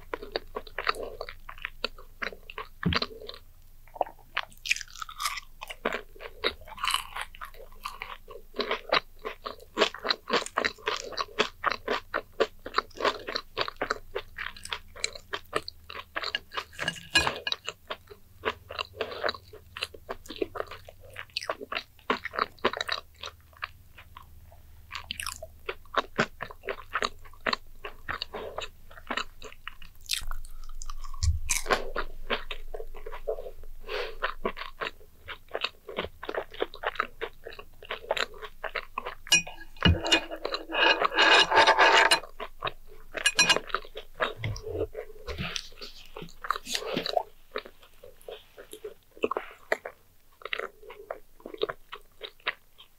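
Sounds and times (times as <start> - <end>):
crunching and chewing: 0.0 - 52.9.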